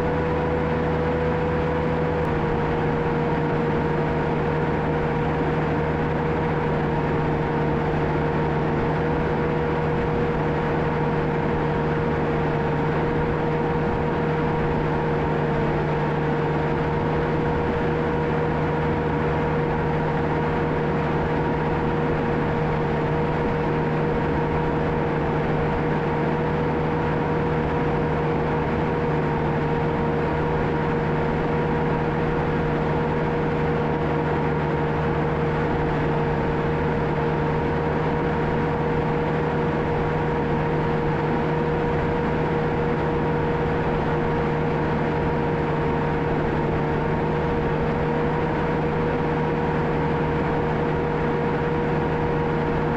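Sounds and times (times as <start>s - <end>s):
diesel engine drone: 0.0s - 52.9s.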